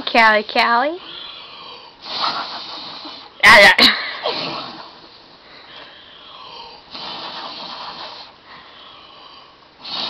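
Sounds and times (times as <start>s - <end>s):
heavy wheezing breaths: 1.0s - 3.4s, 4.1s - 10.0s.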